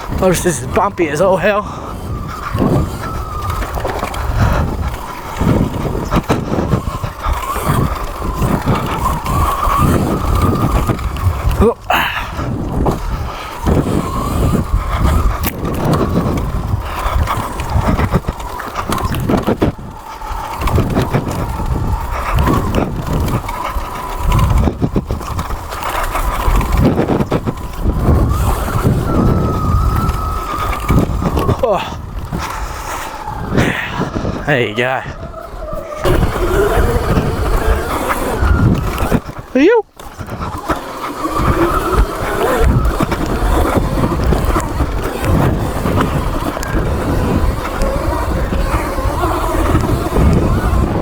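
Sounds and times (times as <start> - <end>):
electric dirt bike motor whine: 0.0 - 51.0
wind noise on microphone: 0.0 - 51.0.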